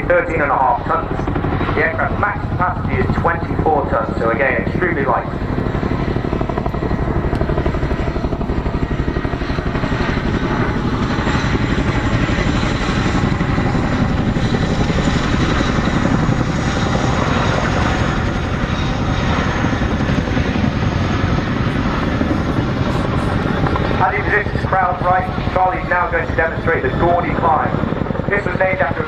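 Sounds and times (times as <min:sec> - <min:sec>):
helicopter rotors chopping: 0:00.0 - 0:29.0
turbine noise: 0:00.0 - 0:29.0.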